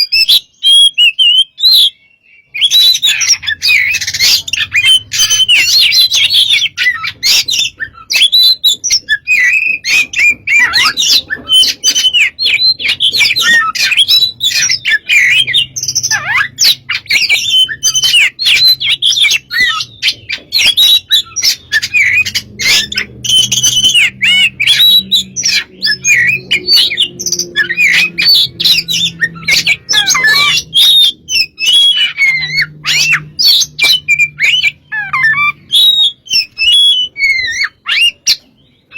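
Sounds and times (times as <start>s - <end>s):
songbird whistling song: 0.0s - 38.9s.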